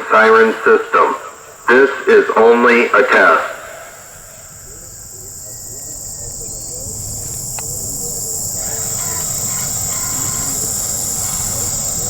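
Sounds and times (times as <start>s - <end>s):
crickets chirping chorus: 0.0s - 12.0s.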